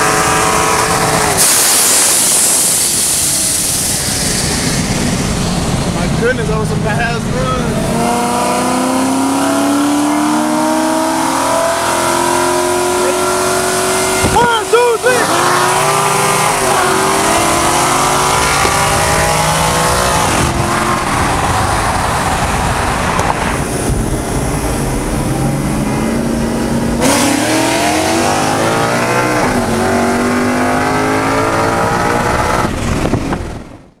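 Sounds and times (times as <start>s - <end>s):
racing car engines at full throttle: 0.0s - 34.0s.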